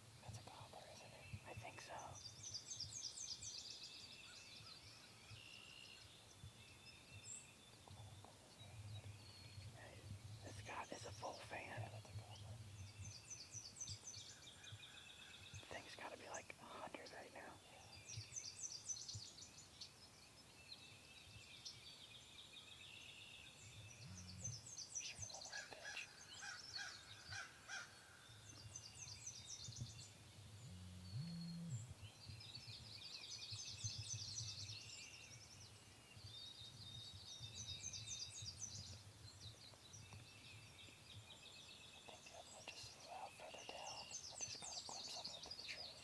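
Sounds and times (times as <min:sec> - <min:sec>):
birds singing and chirping: 0:00.3 - 0:46.0.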